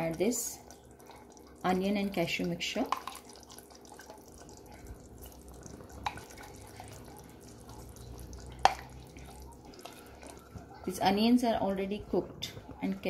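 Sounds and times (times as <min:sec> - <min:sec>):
wet paste plopping: 0:00.0 - 0:10.8.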